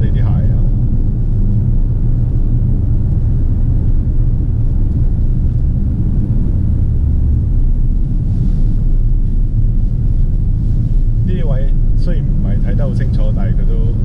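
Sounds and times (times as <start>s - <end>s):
car cabin engine and tyre rumble: 0.0s - 14.0s.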